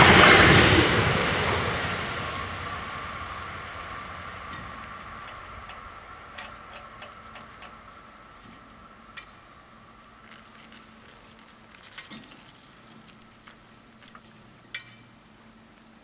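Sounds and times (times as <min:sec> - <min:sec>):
faint motor hum: 0:00.0 - 0:16.0.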